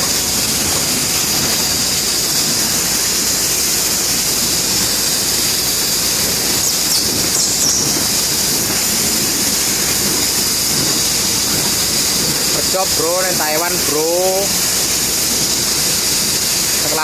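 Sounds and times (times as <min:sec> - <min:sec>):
laser cutting machine hissing: 0:00.0 - 0:17.0.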